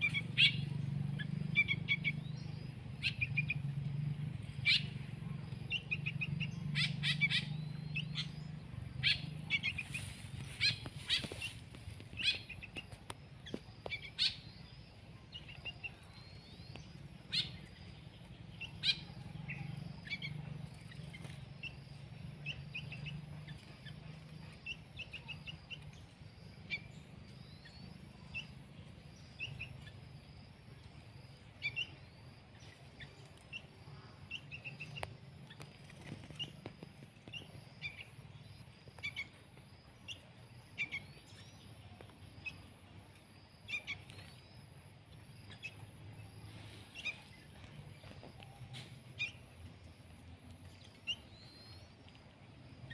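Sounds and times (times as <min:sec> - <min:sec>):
faint low rumble: 0:00.0 - 0:52.9
songbirds chirping: 0:00.0 - 0:52.9.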